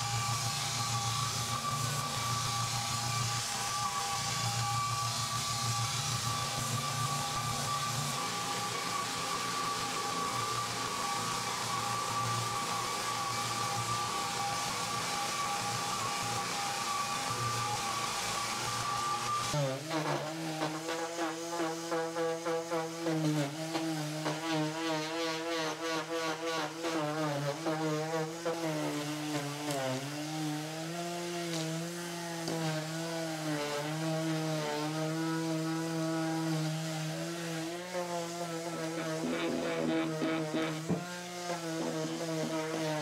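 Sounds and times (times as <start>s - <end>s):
electric sander humming: 0.0s - 43.0s.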